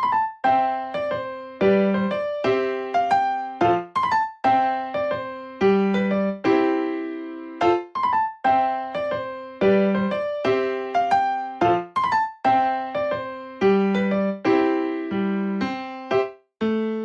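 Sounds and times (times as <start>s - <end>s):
electric piano melody: 0.0s - 17.0s.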